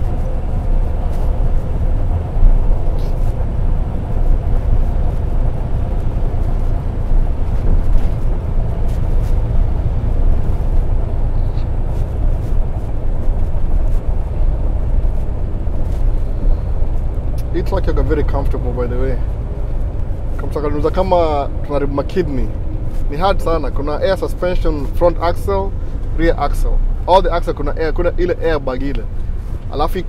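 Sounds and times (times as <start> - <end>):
road noise: 0.0 - 30.0
truck diesel engine rumble: 0.0 - 30.0.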